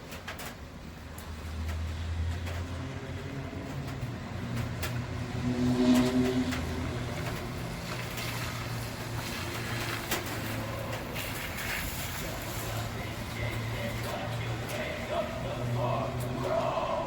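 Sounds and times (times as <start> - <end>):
street traffic hum: 0.0 - 17.0.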